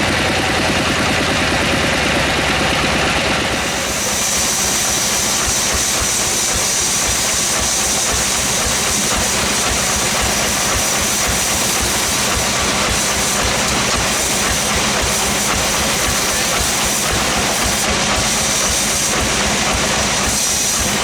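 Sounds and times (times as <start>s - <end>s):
engine pulsing: 0.0s - 21.0s
saw whine and hiss: 3.4s - 21.0s.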